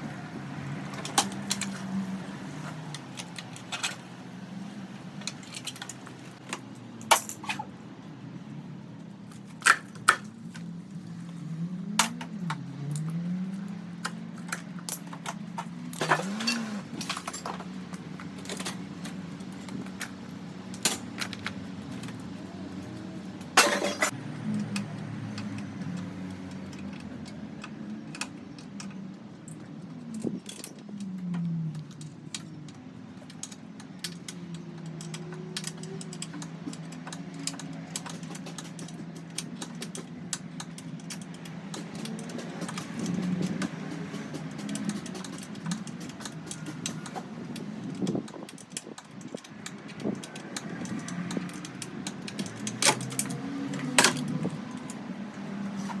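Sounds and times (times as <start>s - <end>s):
metal tools clinking and knocking: 0.9s - 7.8s, 9.2s - 56.0s.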